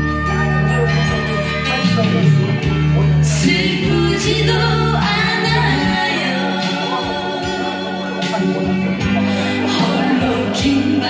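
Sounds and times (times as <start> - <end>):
pop song over speakers: 0.0 - 11.0.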